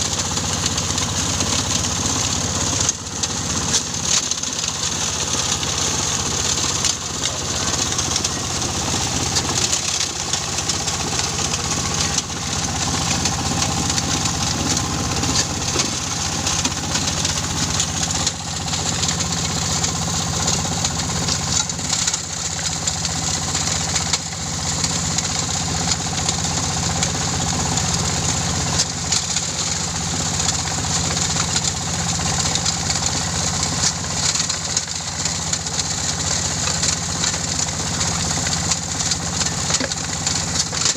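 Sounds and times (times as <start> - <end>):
engine drone: 0.0 - 40.9.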